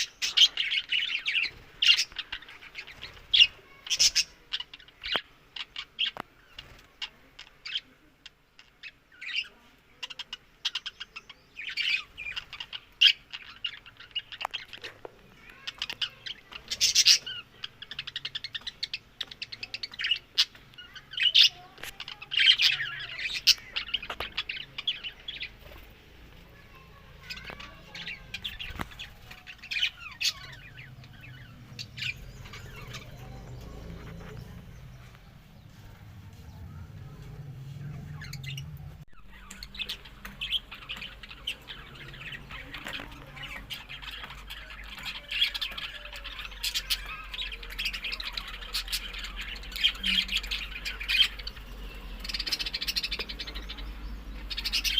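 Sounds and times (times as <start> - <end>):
budgies chirping: 0.0 - 54.9.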